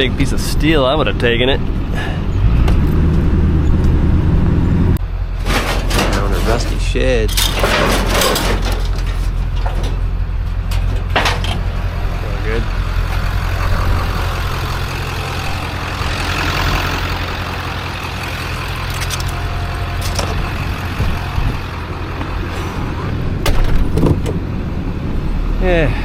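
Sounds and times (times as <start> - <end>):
road noise: 0.0 - 26.0
vehicle engine humming: 0.0 - 26.0.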